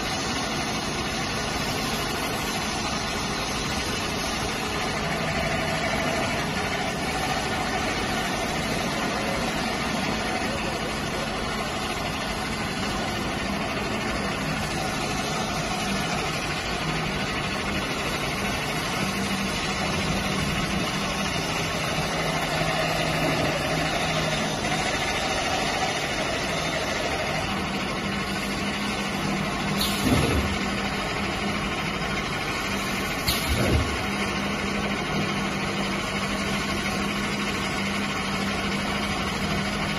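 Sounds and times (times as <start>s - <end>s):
machine mechanical hum: 0.0s - 39.9s.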